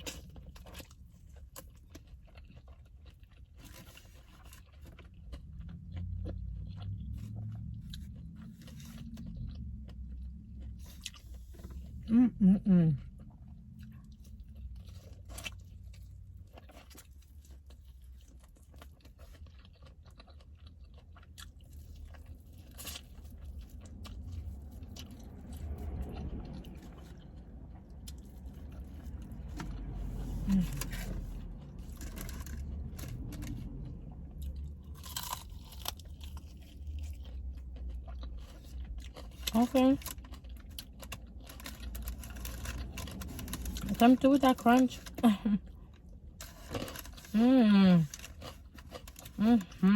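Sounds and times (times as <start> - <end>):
person chewing and crunching: 0.0 - 49.9.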